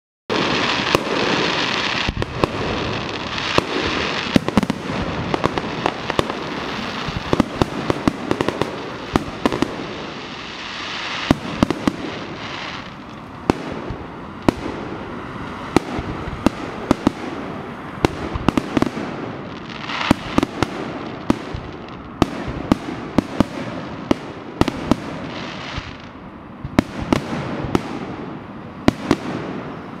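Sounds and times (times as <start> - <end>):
firework bangs: 0.3 - 30.0
firework crackle: 0.3 - 30.0
firework hissing: 0.3 - 30.0.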